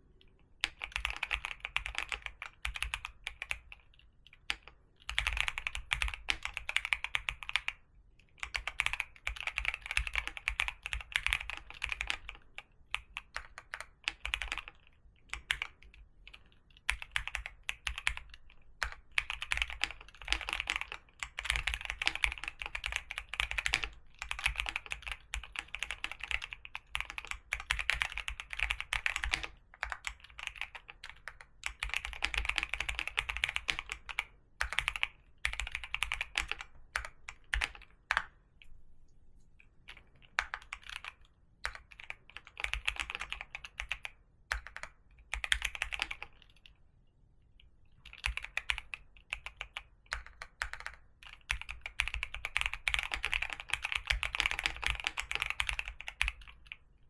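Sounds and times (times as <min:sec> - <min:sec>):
computer keyboard typing: 0:00.6 - 0:38.4, 0:39.9 - 0:46.7, 0:48.0 - 0:56.9.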